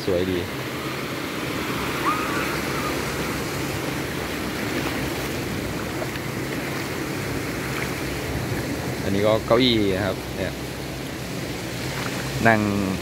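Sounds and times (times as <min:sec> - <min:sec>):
sea waves breaking on sand: 0:00.0 - 0:13.0.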